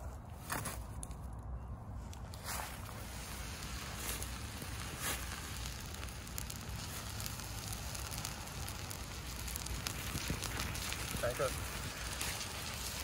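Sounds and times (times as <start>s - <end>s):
molten metal sizzling and popping: 2.3s - 13.0s.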